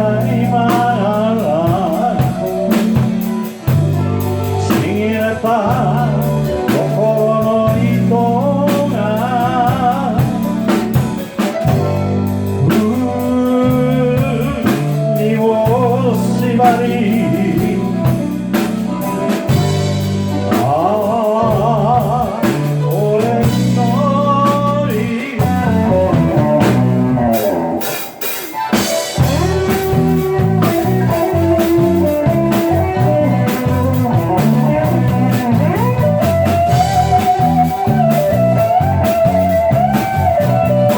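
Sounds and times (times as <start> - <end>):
band playing a song: 0.0 - 40.9
person singing with vibrato: 0.0 - 40.9.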